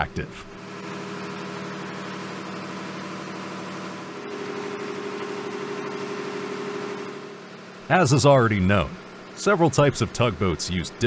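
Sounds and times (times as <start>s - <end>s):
diesel engine drone: 0.0s - 11.0s
machinery hum: 0.0s - 11.0s.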